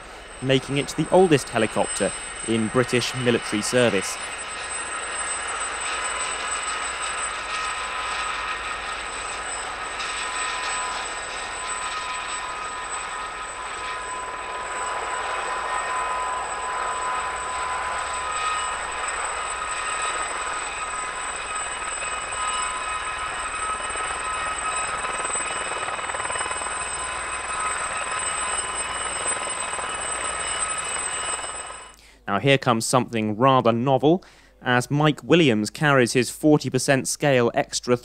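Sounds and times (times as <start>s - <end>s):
rushing noise: 0.0s - 31.9s
helicopter turbine whine: 0.0s - 32.2s.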